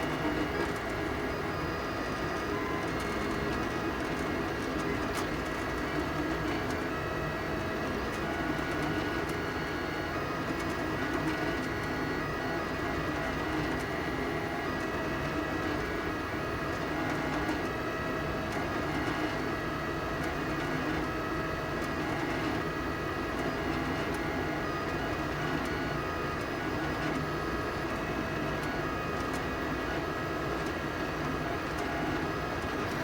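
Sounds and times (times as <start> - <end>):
steady printer hum: 0.0 - 33.0.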